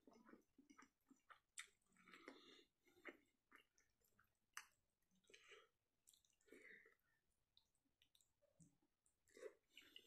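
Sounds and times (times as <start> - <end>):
wet chewing with mouth clicks: 0.0 - 10.0.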